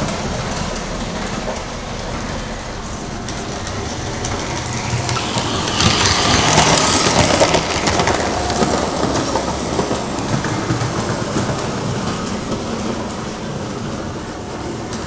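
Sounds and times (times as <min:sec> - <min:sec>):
toy train rumbling on track: 0:00.0 - 0:15.0.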